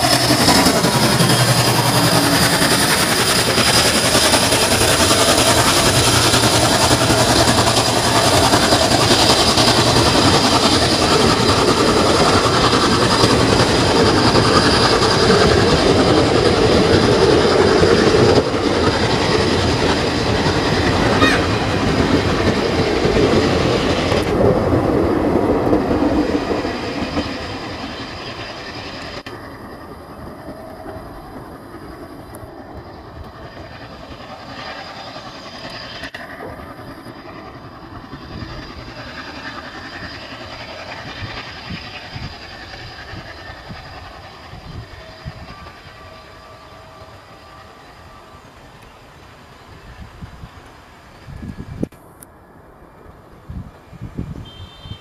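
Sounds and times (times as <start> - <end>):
train wheels clattering on rails: 0.0 - 49.1.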